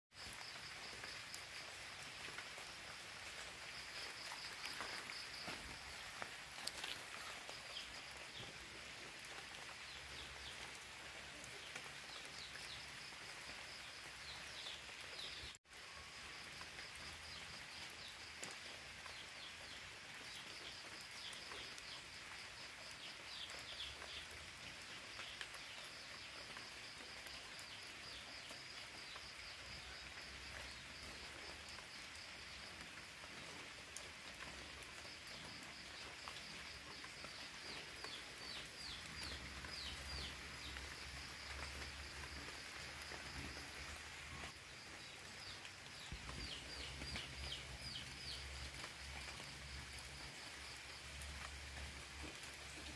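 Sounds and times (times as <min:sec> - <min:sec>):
birds and insects chirping: 0:00.2 - 0:52.9.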